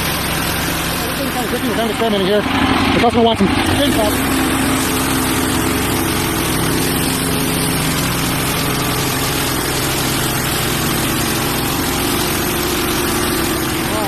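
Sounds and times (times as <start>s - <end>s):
sawmill engine running steadily: 0.0s - 14.0s.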